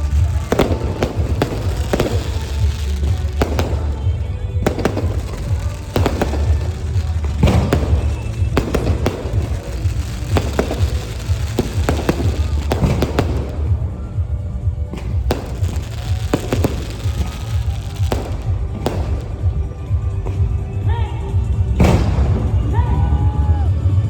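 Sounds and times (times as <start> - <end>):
fireworks bangs and cracks: 0.0 - 22.8
music playing: 0.0 - 24.0.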